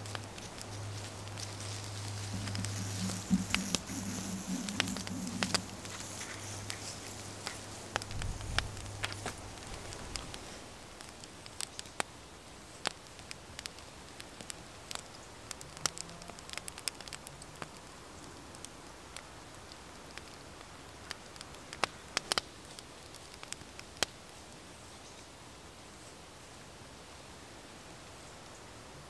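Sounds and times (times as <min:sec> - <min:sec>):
sharp crackles and clicks: 0:00.0 - 0:24.3
soft steady hiss: 0:00.0 - 0:29.0.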